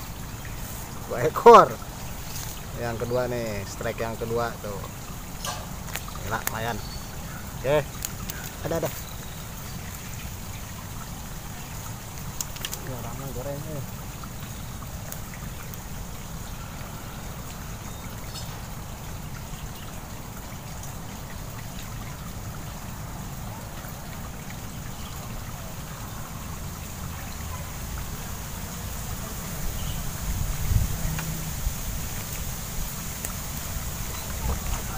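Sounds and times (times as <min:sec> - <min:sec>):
faint high hiss: 0:00.0 - 0:23.6, 0:24.6 - 0:34.9.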